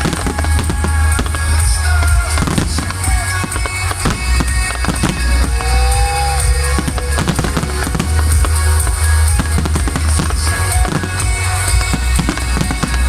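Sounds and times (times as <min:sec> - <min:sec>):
fireworks bangs: 0:00.0 - 0:13.0
loud bass-heavy music: 0:00.0 - 0:13.0.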